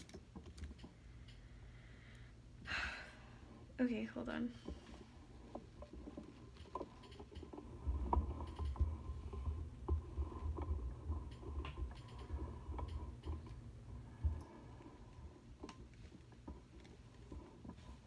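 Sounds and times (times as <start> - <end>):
low rumble from jostled mount: 3.4 - 18.0.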